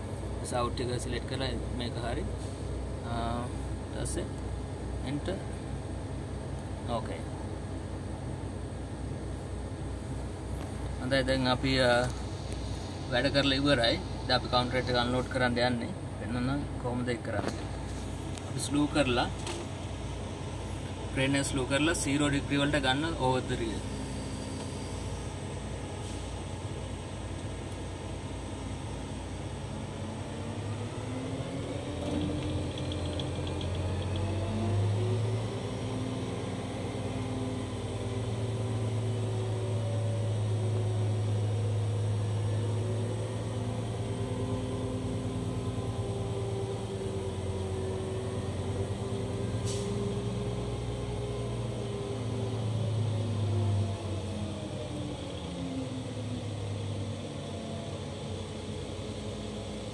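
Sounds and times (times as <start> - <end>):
crane diesel engine revving: 7.5 - 59.9.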